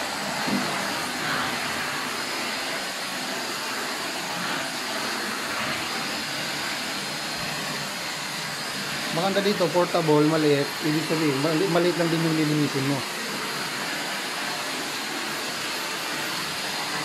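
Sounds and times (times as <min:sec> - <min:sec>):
stick vacuum running: 0:00.0 - 0:17.0.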